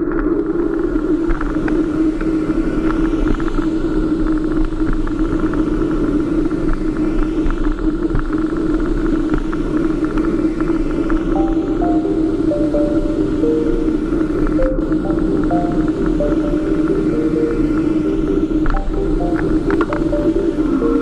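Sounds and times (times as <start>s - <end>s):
electric bike rumble and hum: 0.0s - 21.0s.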